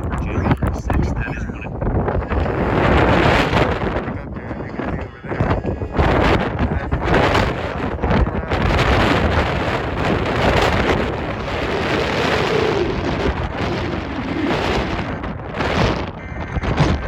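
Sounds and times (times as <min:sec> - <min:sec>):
strong wind gusting against microphone: 0:00.0 - 0:17.0.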